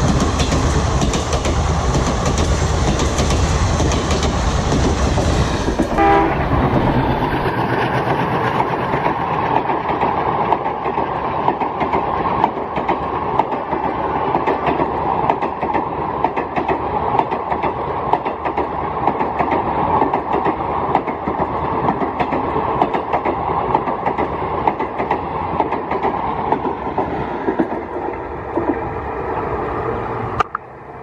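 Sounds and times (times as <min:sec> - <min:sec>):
train coaches rumbling past: 0:00.0 - 0:31.0.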